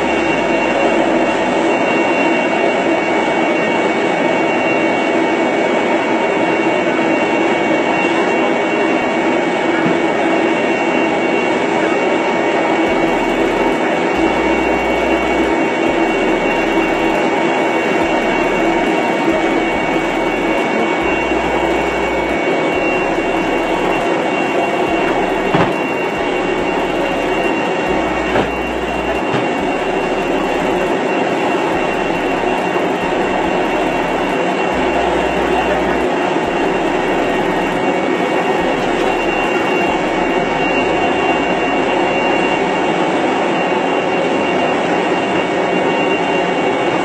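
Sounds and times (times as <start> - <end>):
aircraft turbine drone: 0.0 - 47.0
high whine: 0.0 - 47.0.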